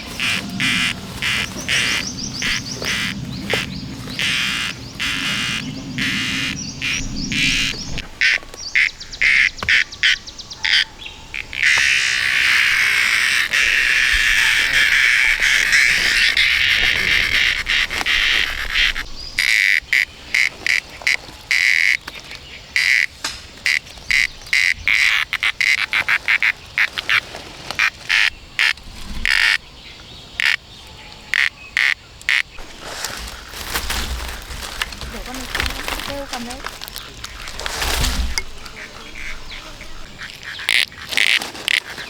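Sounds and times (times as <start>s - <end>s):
loud frog short calls: 0.0s - 22.0s, 22.8s - 27.2s, 27.8s - 29.6s, 31.2s - 42.0s
frog chorus: 0.0s - 42.0s.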